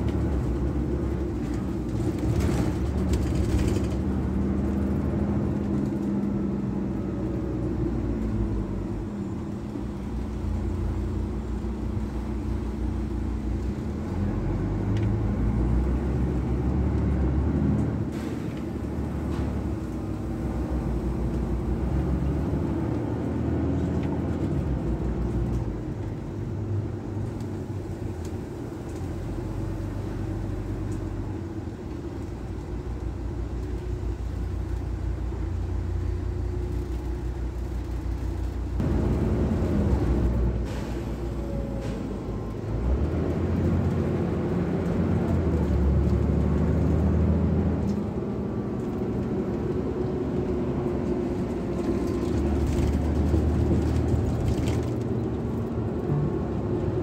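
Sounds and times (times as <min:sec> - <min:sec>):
bus engine hum: 0:00.0 - 0:57.0
tyre and road rumble: 0:00.0 - 0:57.0.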